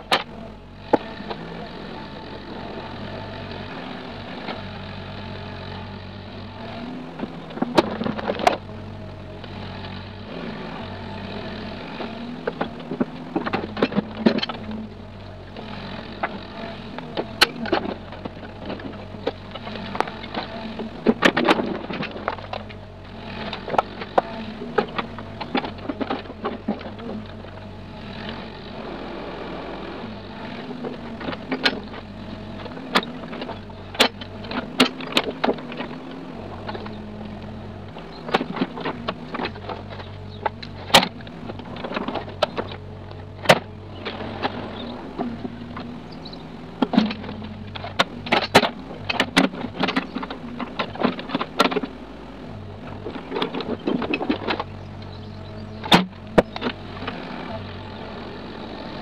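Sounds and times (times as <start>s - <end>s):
excavator bucket knocking and clanking: 0.0s - 28.7s, 30.0s - 59.0s
excavator engine: 0.0s - 59.0s.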